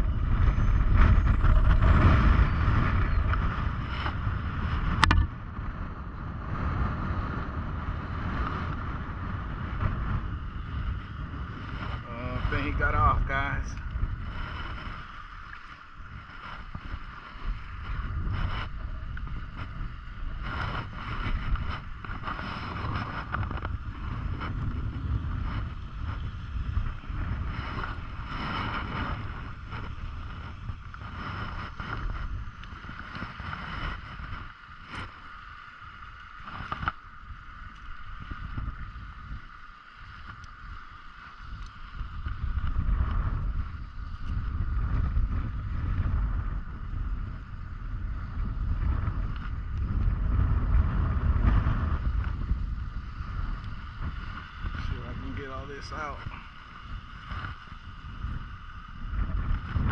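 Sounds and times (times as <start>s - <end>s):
steady high-pitched whine: 0.0s - 59.9s
wind buffeting microphone: 0.0s - 59.9s.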